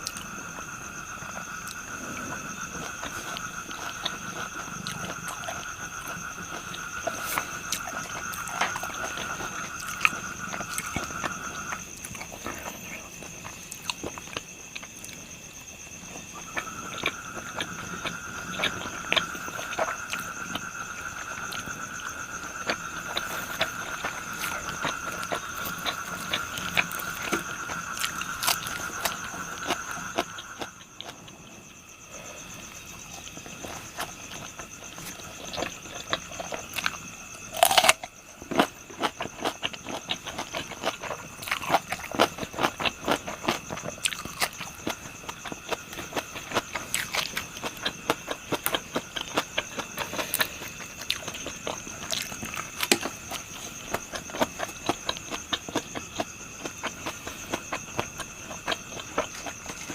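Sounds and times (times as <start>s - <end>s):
chewing crunchy food: 0.0s - 59.9s
insects singing: 0.0s - 59.9s.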